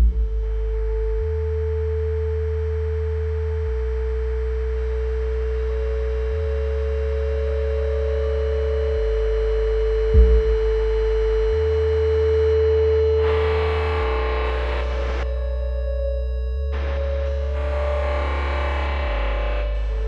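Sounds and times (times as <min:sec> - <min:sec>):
ambient electronic music: 0:00.0 - 0:20.0.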